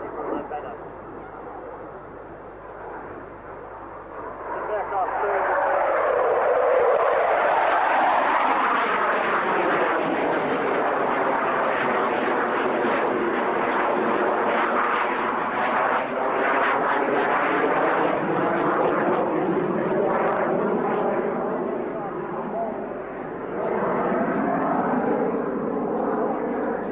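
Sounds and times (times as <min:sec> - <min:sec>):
jet aircraft flying past: 0:02.6 - 0:26.9.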